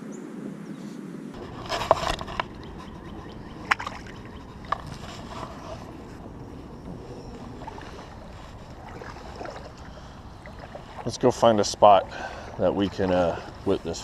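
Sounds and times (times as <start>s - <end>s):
water sloshing against a kayak: 1.4s - 14.0s.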